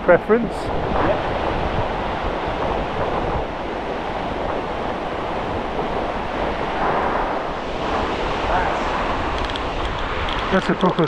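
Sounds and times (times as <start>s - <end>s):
wind buffeting microphone: 0.0s - 11.0s
surf breaking on shore: 0.6s - 11.0s.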